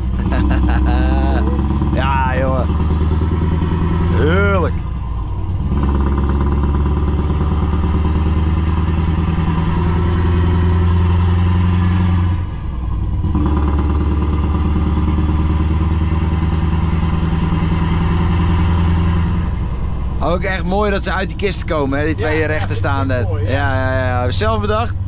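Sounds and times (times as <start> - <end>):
truck engine droning in cab: 0.0 - 25.0.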